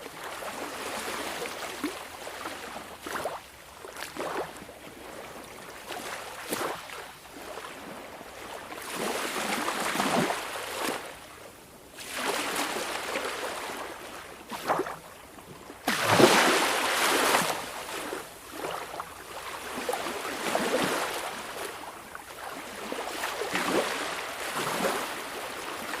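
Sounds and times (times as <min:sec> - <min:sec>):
small waves washing ashore: 0:00.0 - 0:26.0.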